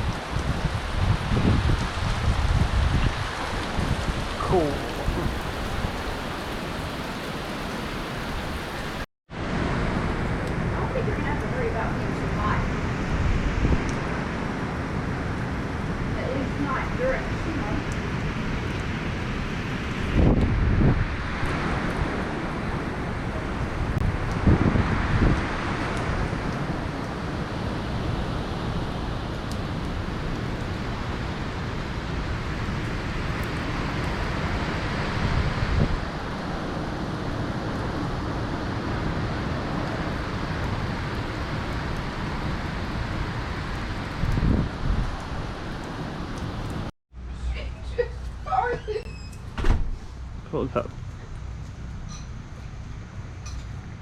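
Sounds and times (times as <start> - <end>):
storm wind rushing: 0.0 - 46.9
wind gusts buffeting microphone: 0.0 - 46.9.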